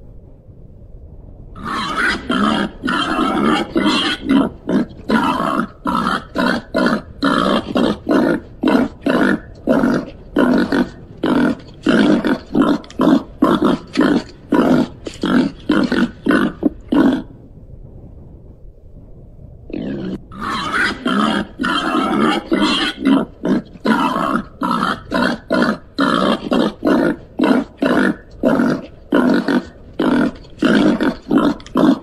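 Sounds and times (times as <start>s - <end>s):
animal grunting: 1.6s - 17.4s, 19.7s - 32.0s.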